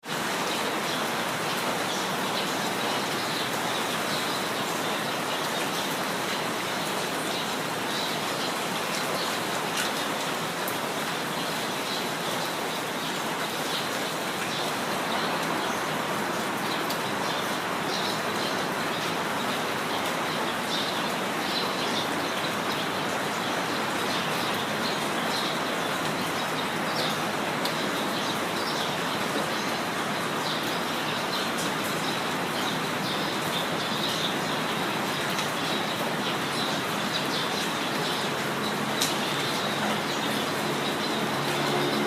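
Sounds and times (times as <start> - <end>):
steady rain falling: 0.0 - 42.0
small birds chirping: 0.2 - 42.0.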